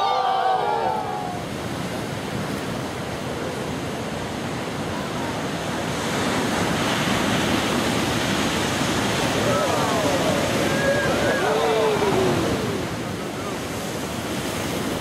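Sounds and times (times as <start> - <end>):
ocean waves crashing: 0.0 - 15.0.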